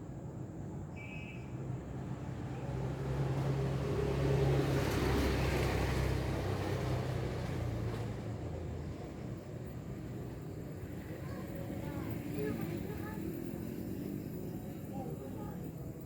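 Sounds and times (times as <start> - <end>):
rushing road noise: 1.6 - 16.0
vehicle engine hum passing: 1.6 - 16.0.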